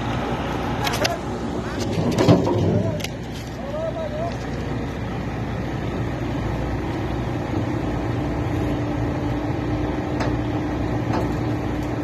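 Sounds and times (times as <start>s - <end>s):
construction machine engine rumbling: 0.0s - 12.0s.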